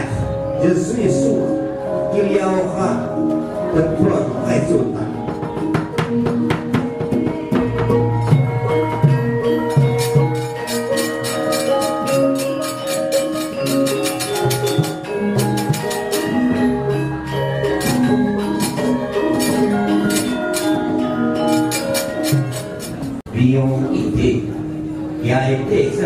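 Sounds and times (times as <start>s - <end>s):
gamelan ensemble playing: 0.0s - 26.0s.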